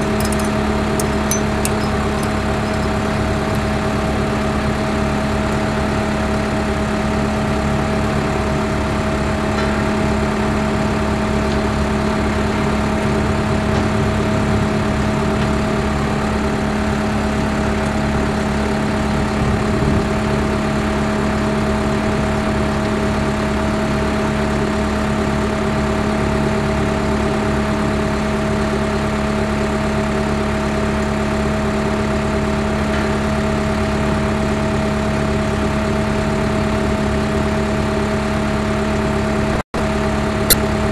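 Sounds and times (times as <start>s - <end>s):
skid steer engine hum: 0.0s - 40.9s.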